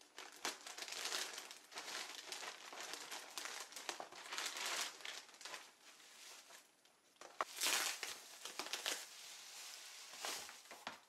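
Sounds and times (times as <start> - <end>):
crinkling and rustling: 0.0 - 11.0.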